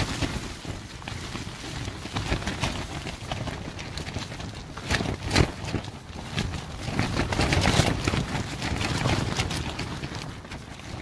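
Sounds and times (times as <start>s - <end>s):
tent fabric flapping: 0.0s - 11.0s
wind buffeting microphone: 0.0s - 11.0s.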